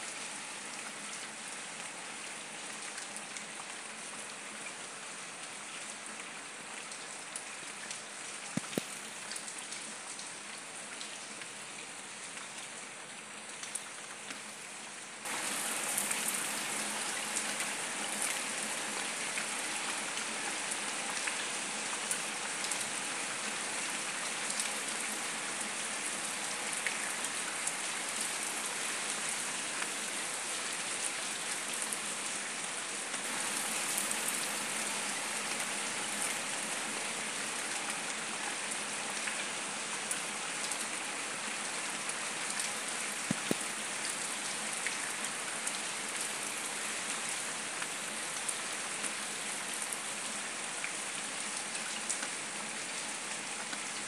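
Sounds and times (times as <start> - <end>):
heavy rain on concrete: 0.0 - 54.0.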